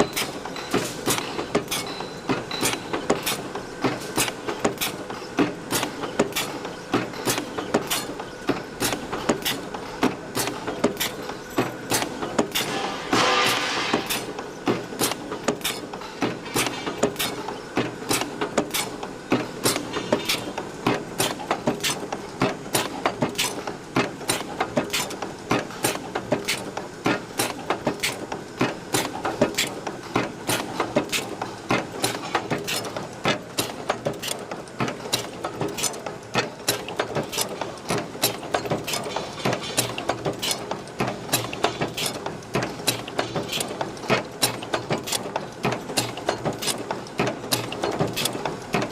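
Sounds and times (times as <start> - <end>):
chain-making machine clicking and knocking: 0.0 - 48.9.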